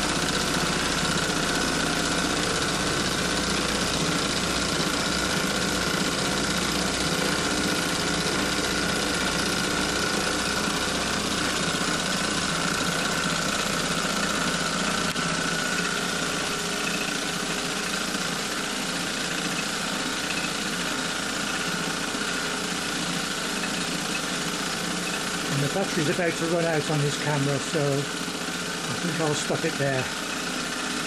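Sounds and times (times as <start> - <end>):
model steam engines running: 0.0 - 31.0.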